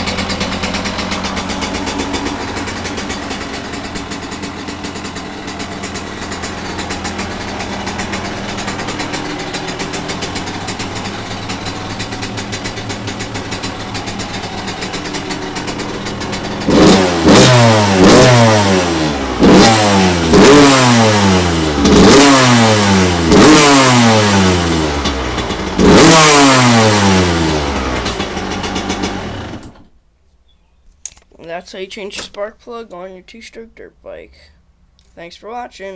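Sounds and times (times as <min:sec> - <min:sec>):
two-stroke engine idling and revving: 0:00.0 - 0:29.9.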